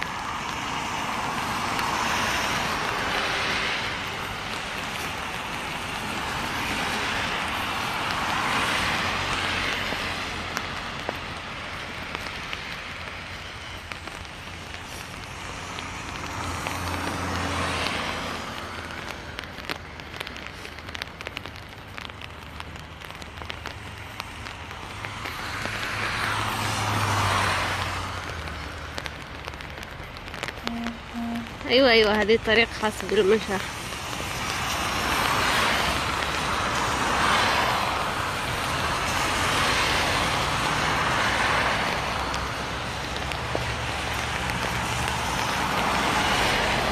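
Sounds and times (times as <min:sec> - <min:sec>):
cars passing on wet road: 0:00.0 - 0:46.9
light ticks of rain: 0:00.0 - 0:46.9.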